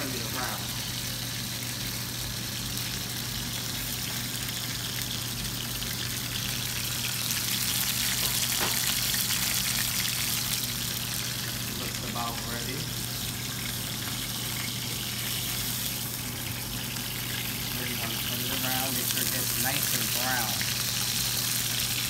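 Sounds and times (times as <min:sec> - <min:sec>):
chicken sizzling in hot oil: 0:00.0 - 0:22.0.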